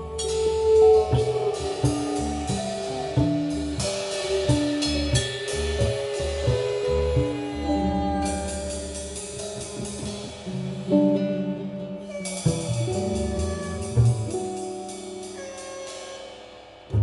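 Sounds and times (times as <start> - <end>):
double bass: 0.0 - 15.8
drum kit with cymbals: 0.0 - 17.0
guitar: 0.0 - 17.0.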